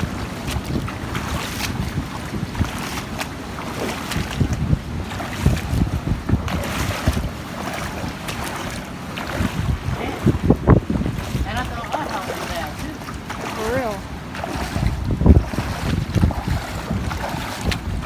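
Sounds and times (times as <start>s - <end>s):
water sloshing around legs: 0.0s - 18.0s
wind buffeting microphone: 0.0s - 18.0s.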